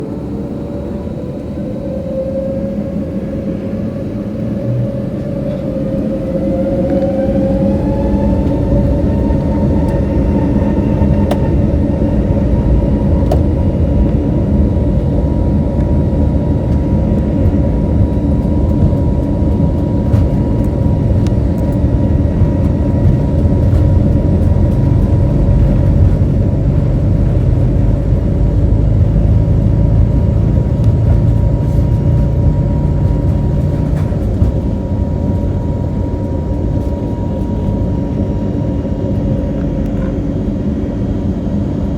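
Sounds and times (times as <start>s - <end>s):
heavy rumble of takeoff roll: 0.0s - 41.9s
jet engine whine: 0.0s - 41.9s.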